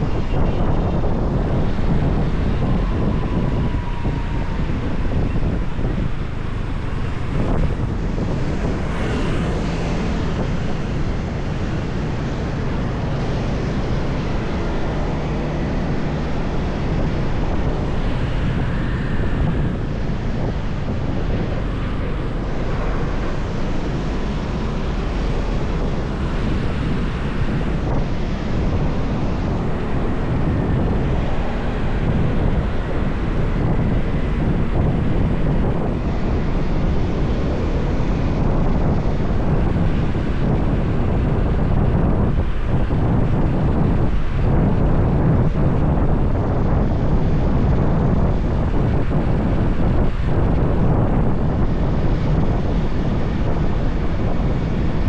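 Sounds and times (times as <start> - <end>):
motorbike engine rumble: 0.0 - 55.0
road noise: 0.0 - 55.0
wind rushing over microphone: 0.0 - 55.0.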